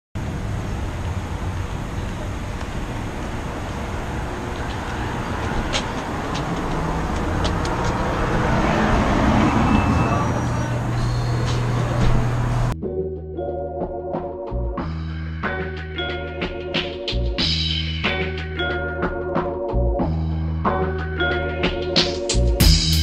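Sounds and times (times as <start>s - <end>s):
road traffic: 0.2s - 12.8s, 14.8s - 23.0s.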